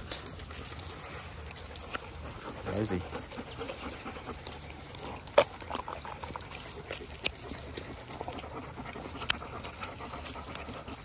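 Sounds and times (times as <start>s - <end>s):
dogs chewing treats: 0.0s - 11.0s.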